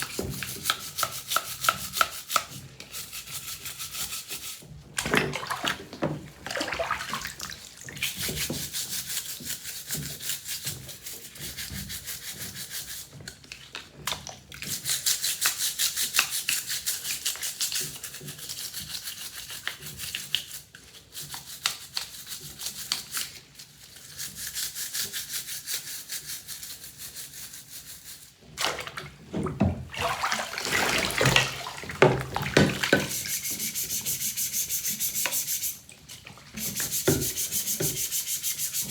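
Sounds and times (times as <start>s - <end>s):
brush scrubbing: 0.0s - 13.2s, 14.7s - 28.9s, 29.9s - 38.9s.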